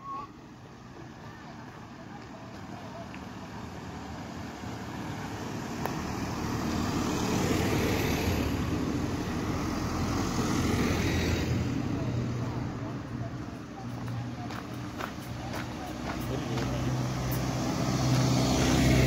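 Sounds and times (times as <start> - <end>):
cars driving past: 2.7 - 19.0.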